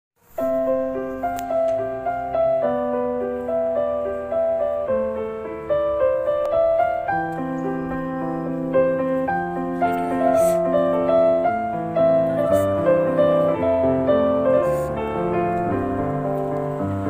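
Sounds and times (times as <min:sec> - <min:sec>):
piano broken-chord music: 0:00.2 - 0:17.0.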